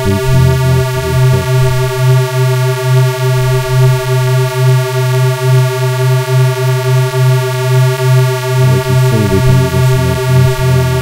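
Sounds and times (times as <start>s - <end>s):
buzzy square-wave synth tone: 0.0s - 11.0s.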